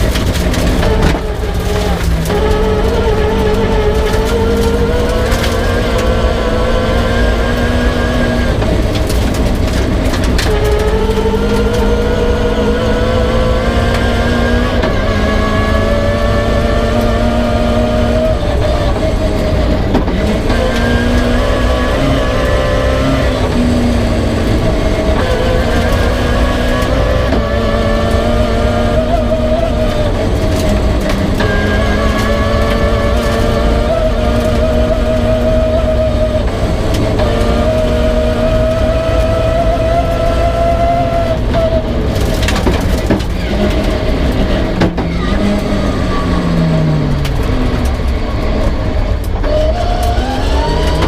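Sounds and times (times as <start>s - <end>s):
rally car engine revving: 0.0s - 51.0s
road and tyre noise: 0.0s - 51.0s.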